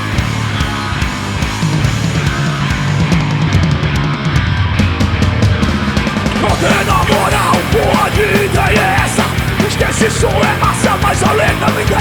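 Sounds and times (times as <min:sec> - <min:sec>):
bass guitar: 0:00.0 - 0:12.0
distorted electric guitars: 0:00.0 - 0:12.0
drums and cymbals: 0:00.0 - 0:12.0.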